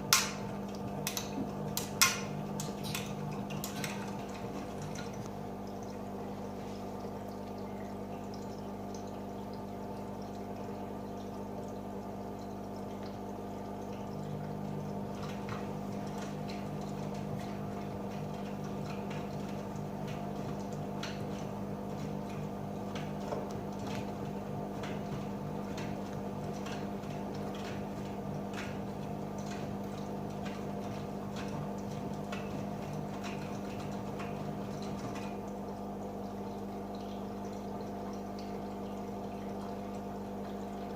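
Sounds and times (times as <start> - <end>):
light drips: 0.0 - 40.9
washing machine humming: 0.0 - 40.9
water trickling and sloshing: 0.0 - 40.9.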